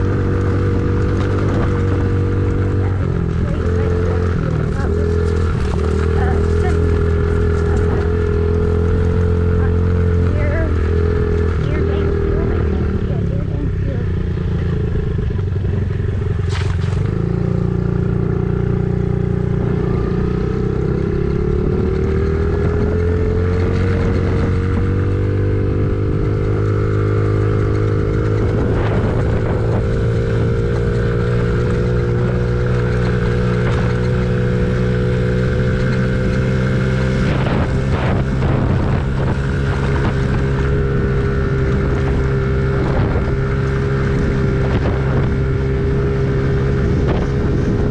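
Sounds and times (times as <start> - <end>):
engine running under load: 0.0 - 47.9.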